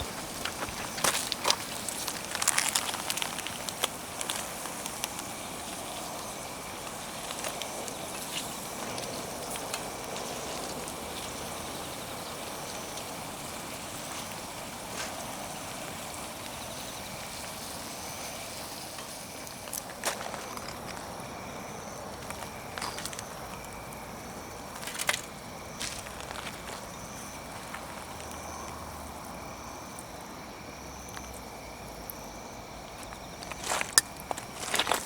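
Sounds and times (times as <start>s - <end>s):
campfire crackles: 0.0s - 35.0s
campfire hissing: 0.0s - 35.0s.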